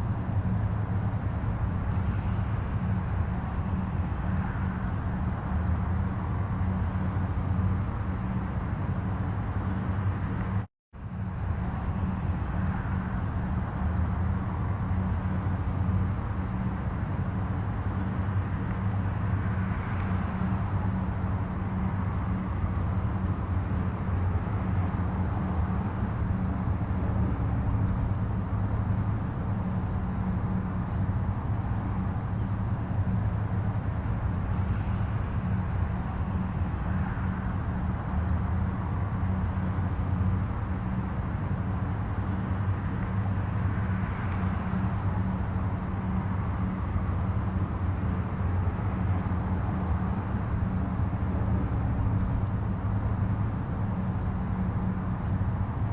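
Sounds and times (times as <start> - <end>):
distant highway traffic: 0.0 - 55.9.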